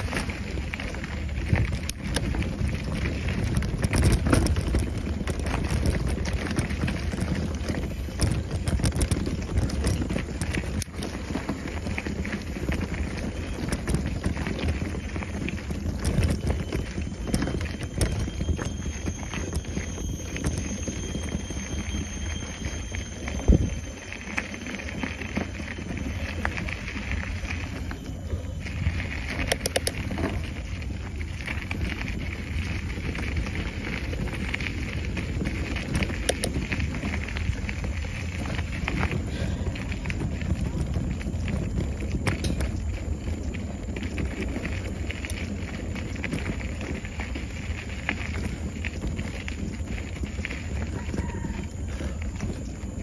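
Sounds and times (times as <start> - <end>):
bike rattling clicks and knocks: 0.0 - 53.0
wind: 0.0 - 53.0.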